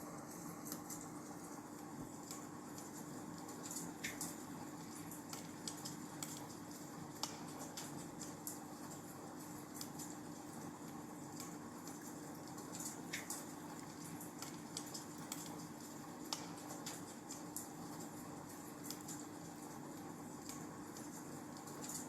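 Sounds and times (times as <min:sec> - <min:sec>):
wood fire crackling: 0:00.1 - 0:22.0.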